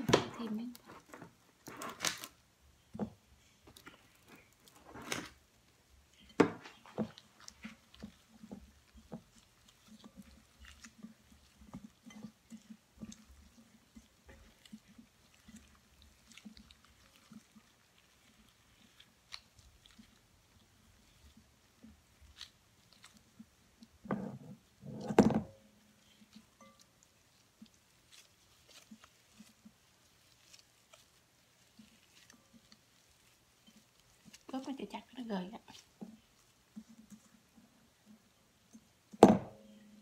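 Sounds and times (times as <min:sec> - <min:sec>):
wet squishing and pressing: 0:00.0 - 0:40.0.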